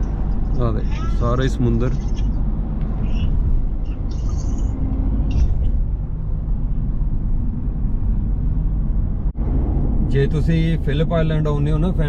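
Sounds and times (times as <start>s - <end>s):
car tyres and engine rumble: 0.0s - 12.0s.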